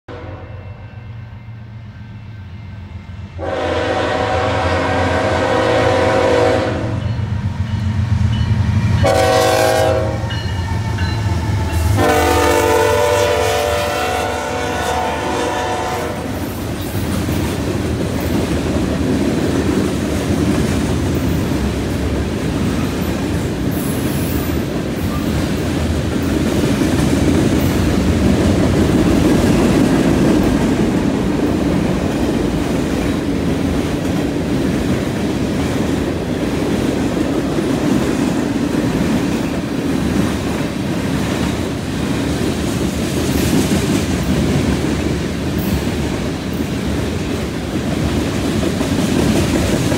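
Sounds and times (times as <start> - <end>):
freight train wheels rumbling on rail: 1.4 - 49.9.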